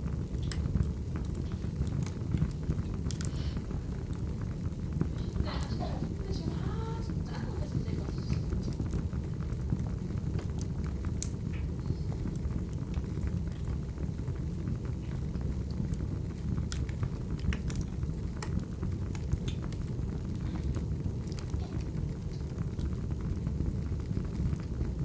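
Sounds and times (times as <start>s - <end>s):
logs crackling and popping: 0.0s - 25.0s
wood fire rumbling: 0.0s - 25.0s.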